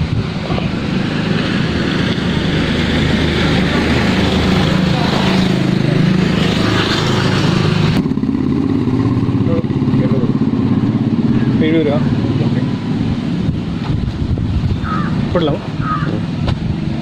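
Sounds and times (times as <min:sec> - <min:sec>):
vehicle engine running: 0:00.0 - 0:17.0
wind and road noise: 0:00.0 - 0:17.0.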